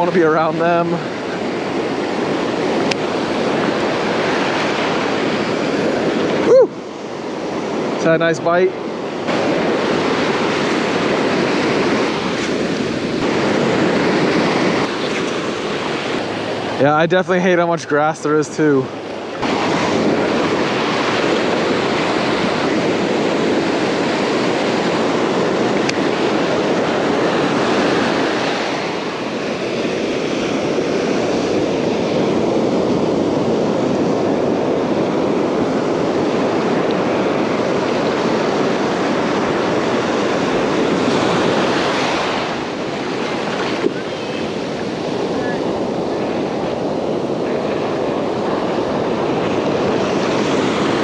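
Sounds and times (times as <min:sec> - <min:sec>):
ocean surf breaking: 0:00.0 - 0:51.0
wind on microphone: 0:00.0 - 0:51.0.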